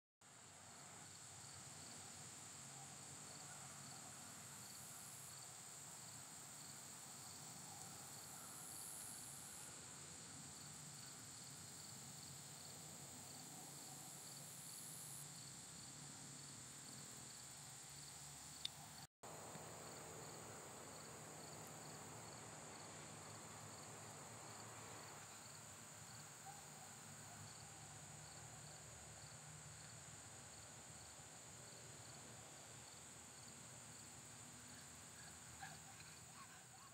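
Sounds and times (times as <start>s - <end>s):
crickets chirping: 0.3s - 36.9s.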